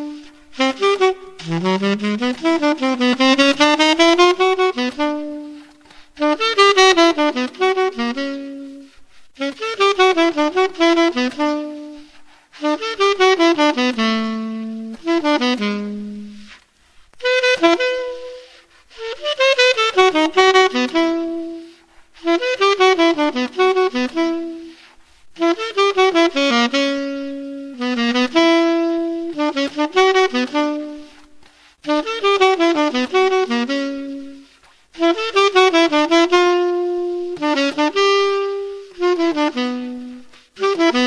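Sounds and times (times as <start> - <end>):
saxophone playing quick melody: 0.0 - 16.6, 17.2 - 41.0.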